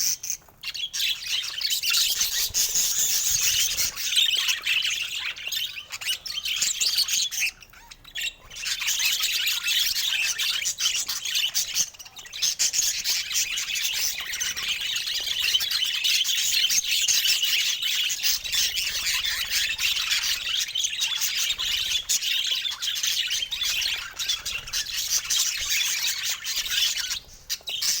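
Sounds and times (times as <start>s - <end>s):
budgerigars chirping and warbling: 0.0s - 28.0s.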